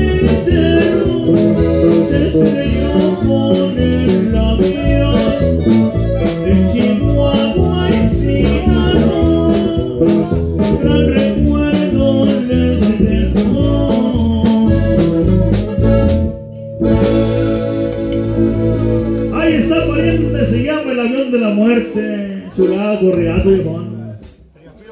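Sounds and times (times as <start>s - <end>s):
norteno band playing polka: 0.0s - 24.6s.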